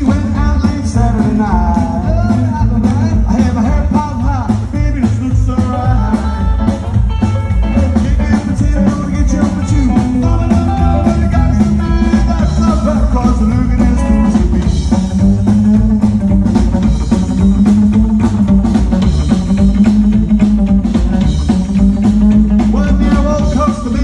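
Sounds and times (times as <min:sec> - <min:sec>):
drums: 0:00.0 - 0:24.0
electric guitar lines: 0:00.0 - 0:24.0
upright double bass: 0:00.0 - 0:24.0.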